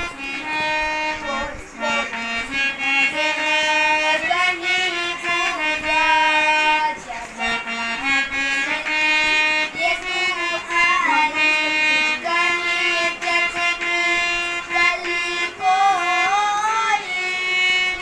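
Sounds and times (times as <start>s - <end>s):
boy singing: 0.0s - 18.0s
harmonium playing: 0.0s - 18.0s.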